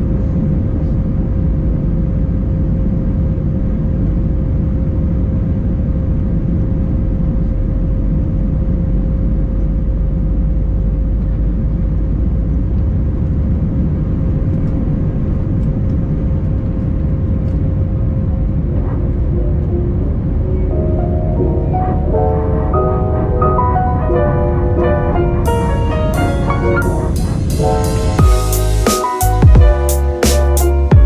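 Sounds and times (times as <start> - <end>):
aircraft cabin rumble: 0.0 - 31.0
constant hum: 0.0 - 31.0.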